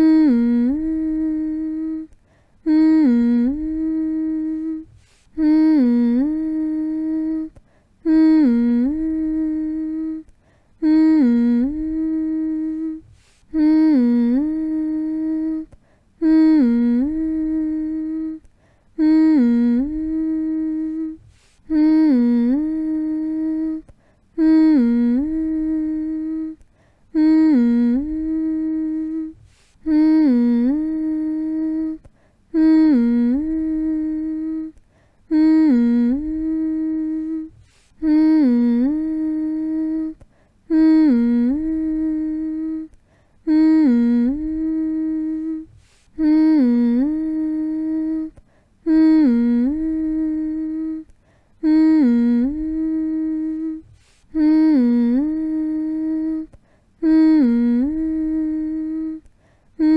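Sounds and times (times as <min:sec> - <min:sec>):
person humming a single note: 0:00.0 - 0:59.9.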